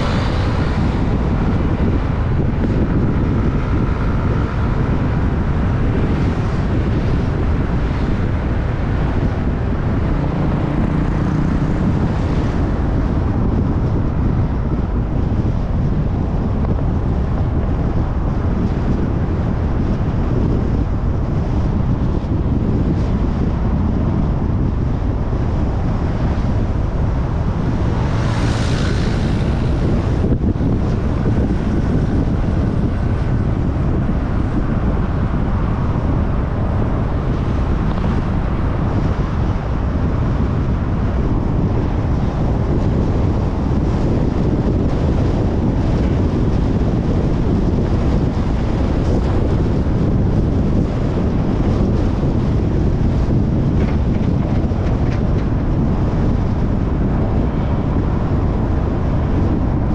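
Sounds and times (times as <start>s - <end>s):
road and traffic noise: 0.0s - 59.9s
wind noise on microphone: 0.0s - 59.9s.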